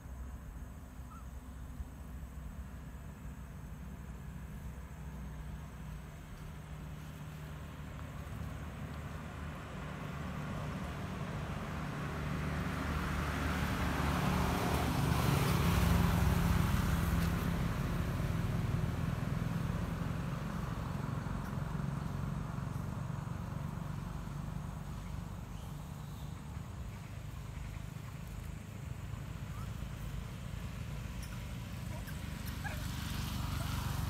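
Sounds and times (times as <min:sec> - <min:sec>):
vehicle passing by: 0:02.2 - 0:34.0.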